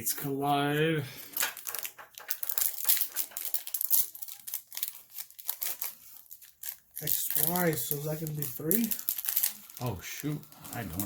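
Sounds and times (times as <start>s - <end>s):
foil pack tearing and crinkling: 1.3s - 11.0s.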